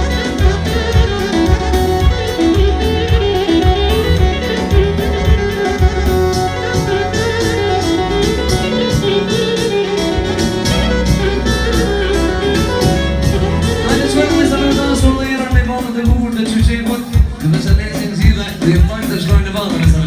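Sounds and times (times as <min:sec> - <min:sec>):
band playing instrumental music: 0:00.0 - 0:20.0.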